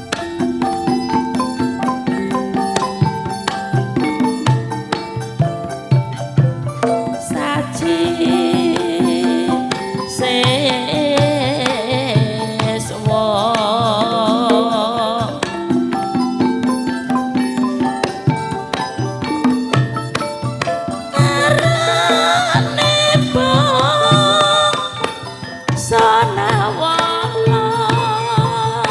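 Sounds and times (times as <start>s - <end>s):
woman singing wavering line: 0.0s - 19.6s, 20.4s - 28.9s
gamelan metallophones playing: 0.0s - 28.9s.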